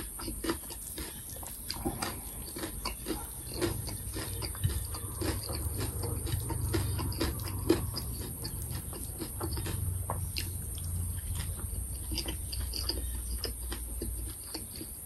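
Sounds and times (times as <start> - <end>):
wet chewing mouth clicks: 0.0 - 15.0.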